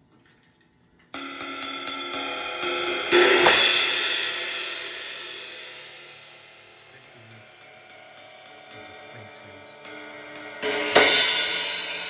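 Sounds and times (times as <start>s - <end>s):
cymbal strikes and crash: 1.2s - 12.0s.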